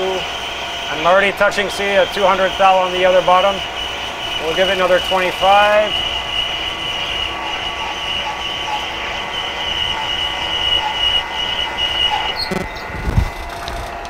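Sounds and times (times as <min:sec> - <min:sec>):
milling machine cutting metal squeal: 0:00.0 - 0:14.0.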